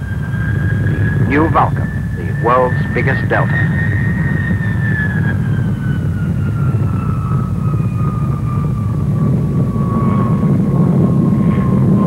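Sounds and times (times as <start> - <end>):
jet engines rumbling with whistle: 0.0 - 12.0.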